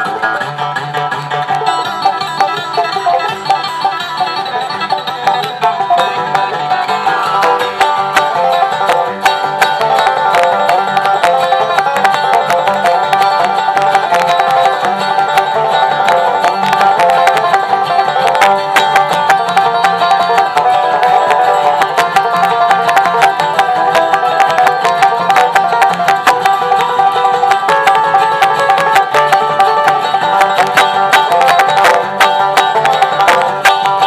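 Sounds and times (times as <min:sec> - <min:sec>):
bluegrass band playing: 0:00.0 - 0:34.0.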